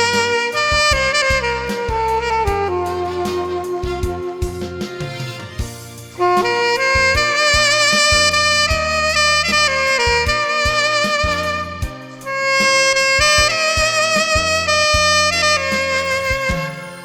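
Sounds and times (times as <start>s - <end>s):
bass: 0.0s - 17.0s
drums: 0.0s - 17.0s
saxophone ballad melody: 0.0s - 17.0s.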